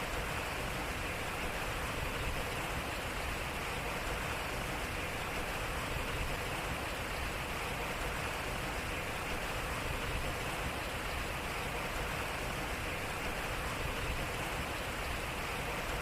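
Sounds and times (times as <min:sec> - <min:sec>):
water splashing at a water wheel: 0:00.0 - 0:16.0.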